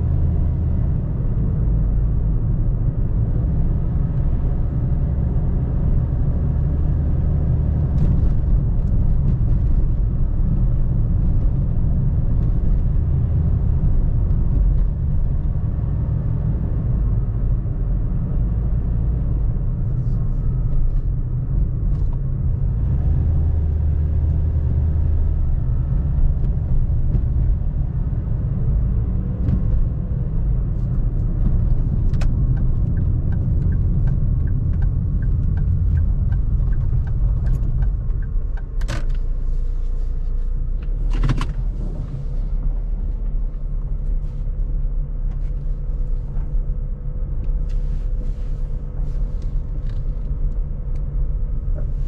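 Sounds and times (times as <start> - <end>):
car engine and tyres rumbling: 0.0 - 52.0.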